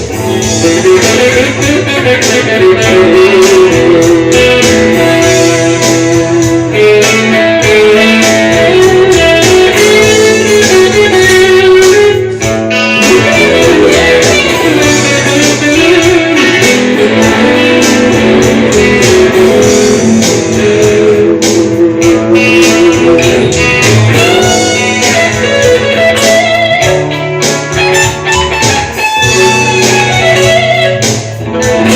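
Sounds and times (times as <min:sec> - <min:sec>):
backing track: 0:00.0 - 0:31.9
clean electric guitar melody: 0:00.0 - 0:31.9.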